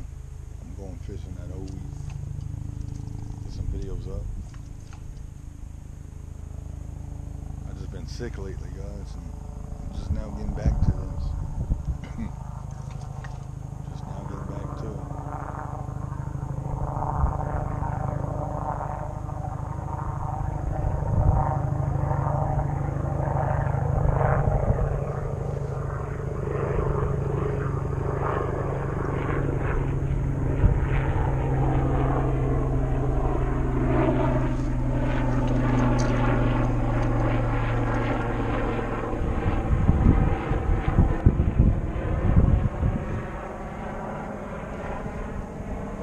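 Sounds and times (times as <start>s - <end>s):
motor engine droning: 0.0s - 46.0s.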